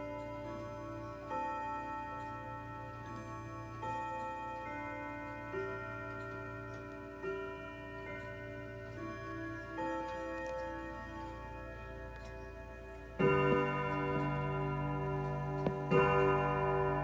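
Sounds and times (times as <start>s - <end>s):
clock ticking: 0.0s - 17.0s
grandfather clock chiming: 0.0s - 17.0s.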